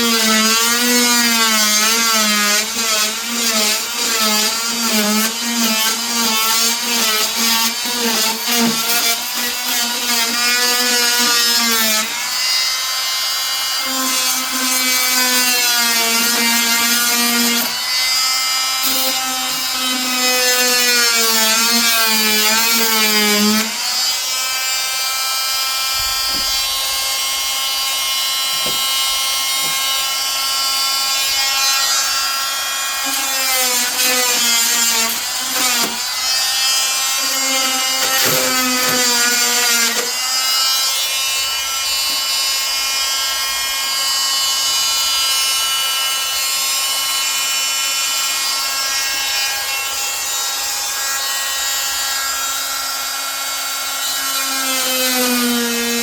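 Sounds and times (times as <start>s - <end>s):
oscillating tool cutting wood: 0.0s - 56.0s.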